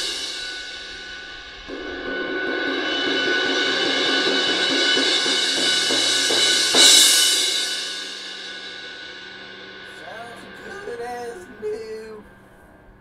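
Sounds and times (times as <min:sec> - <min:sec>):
crash cymbal ringing: 0:00.0 - 0:13.0.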